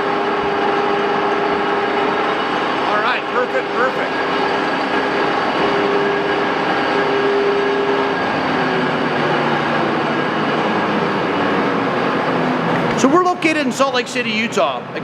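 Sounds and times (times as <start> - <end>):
lathe running: 0.0 - 14.5
faint steady whine: 0.0 - 15.0.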